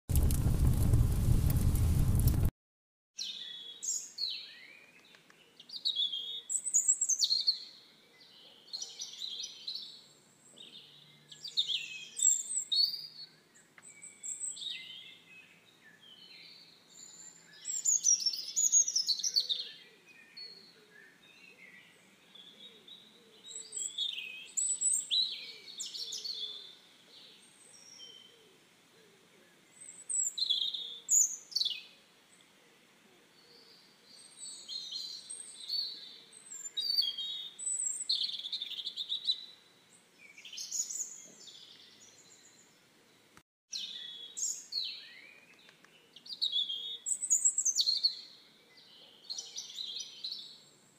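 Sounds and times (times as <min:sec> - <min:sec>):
songbirds singing: 0:03.2 - 0:50.9.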